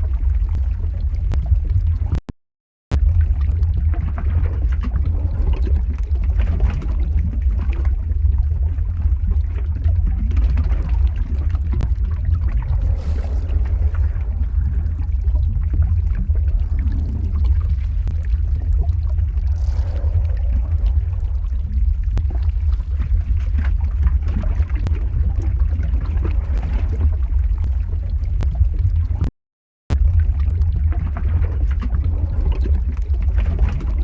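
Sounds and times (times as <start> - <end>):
lava deep rumble: 0.0 - 2.2, 2.9 - 29.3, 29.9 - 34.0
lava crackles and pops: 0.0 - 2.3, 2.9 - 29.3, 29.9 - 34.0.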